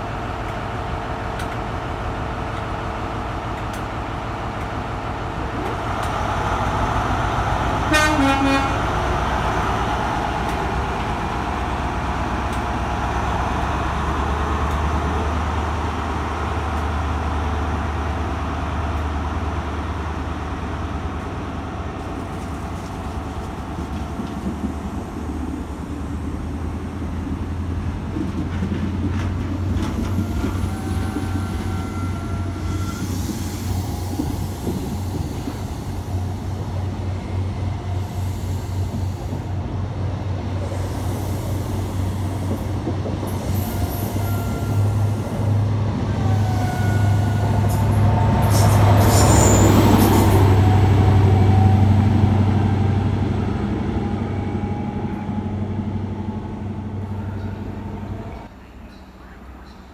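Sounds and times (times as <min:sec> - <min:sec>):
diesel train engine droning: 0:00.0 - 0:59.9.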